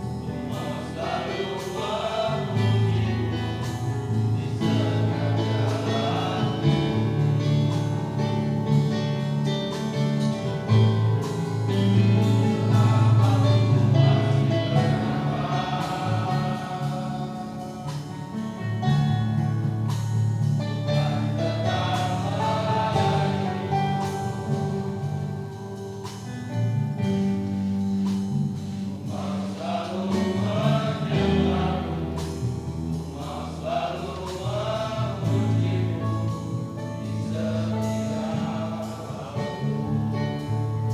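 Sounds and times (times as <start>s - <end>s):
men's choir singing: 0.0s - 20.0s, 20.6s - 25.3s, 28.6s - 40.9s.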